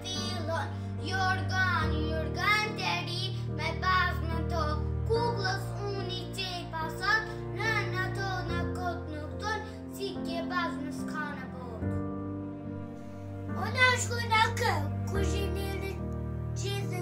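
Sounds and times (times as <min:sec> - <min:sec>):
girl singing: 0:00.0 - 0:11.8, 0:13.6 - 0:16.0, 0:16.6 - 0:17.0
backing music of held chords: 0:00.0 - 0:17.0.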